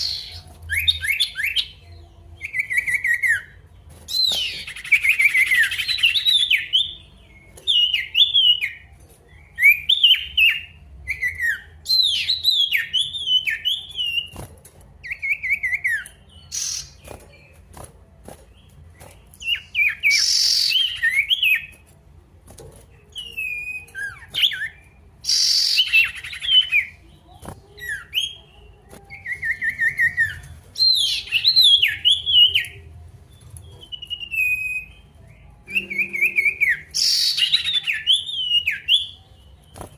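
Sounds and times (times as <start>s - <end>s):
songbird singing: 0.0s - 22.0s, 22.9s - 39.9s.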